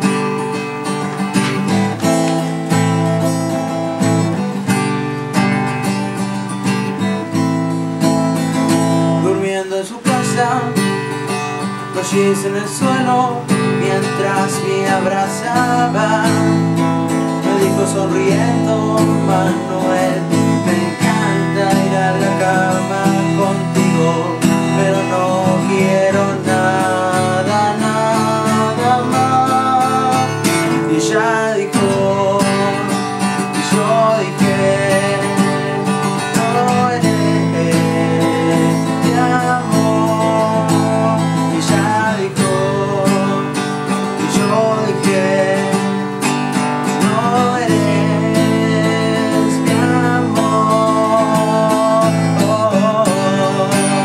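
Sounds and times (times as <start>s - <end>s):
acoustic guitar strumming: 0.0s - 54.0s
young man singing: 8.4s - 54.0s.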